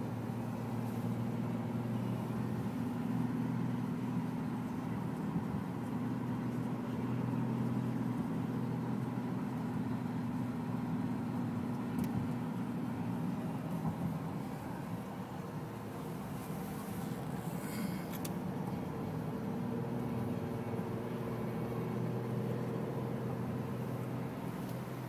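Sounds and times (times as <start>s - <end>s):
car engine and tyre drone: 0.0s - 25.0s.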